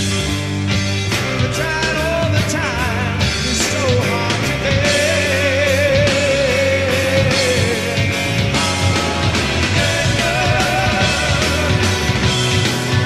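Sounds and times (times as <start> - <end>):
rock band playing live: 0.0 - 13.0
man singing: 1.2 - 13.0.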